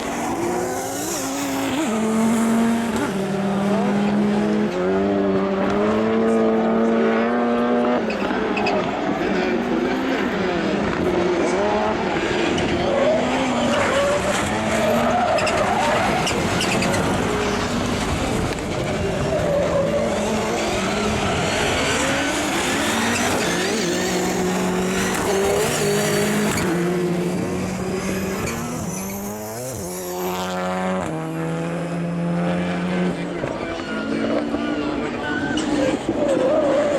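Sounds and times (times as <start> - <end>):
race car engines revving: 0.0 - 36.9.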